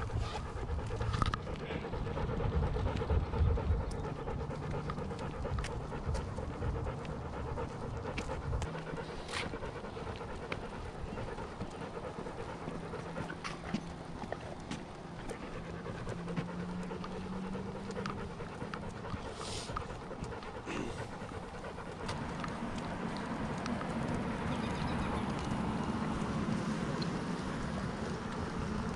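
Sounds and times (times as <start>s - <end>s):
dog panting: 0.0s - 28.9s.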